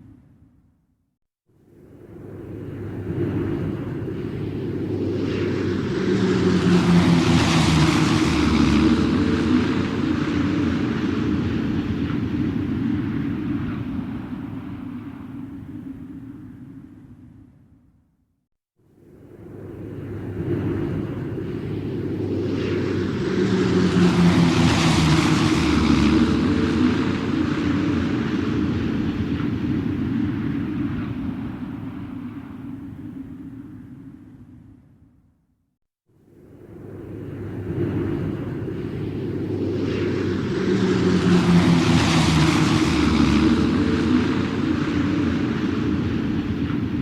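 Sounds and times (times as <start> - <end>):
airplane engine droning: 1.8 - 17.0, 19.2 - 34.4, 36.5 - 47.0.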